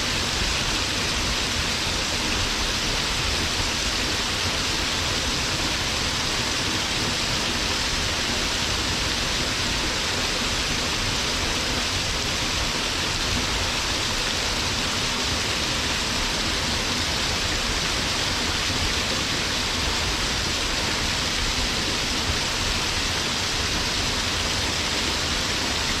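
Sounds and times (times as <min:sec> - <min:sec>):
waterfall pouring onto rocks: 0:00.0 - 0:26.0.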